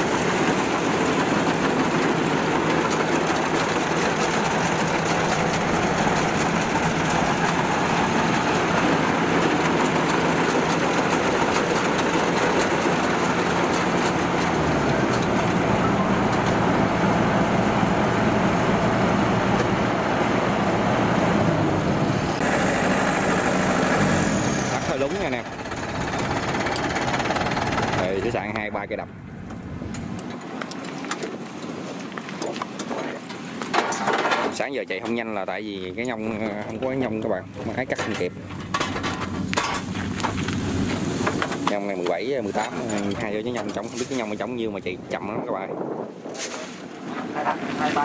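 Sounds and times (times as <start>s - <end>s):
combine harvester running: 0.0s - 35.1s, 35.8s - 45.4s.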